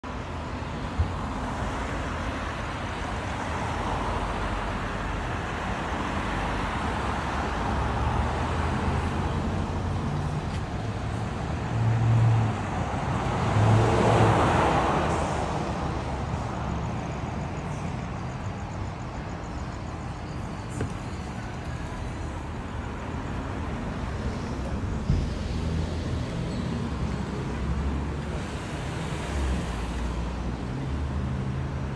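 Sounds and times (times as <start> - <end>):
cars passing on road: 0.0 - 31.9.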